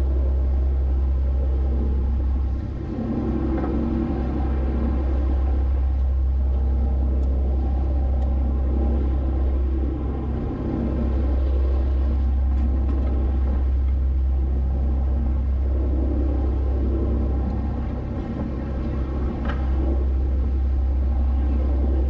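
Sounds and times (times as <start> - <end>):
boat engine droning: 0.0 - 22.0
water rushing along hull: 0.0 - 22.0.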